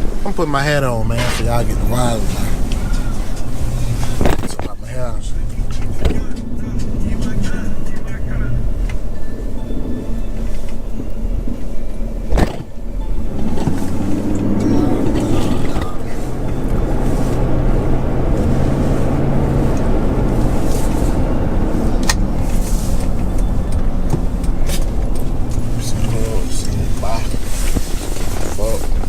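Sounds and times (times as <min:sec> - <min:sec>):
car engine rumble and road noise: 0:00.0 - 0:29.0.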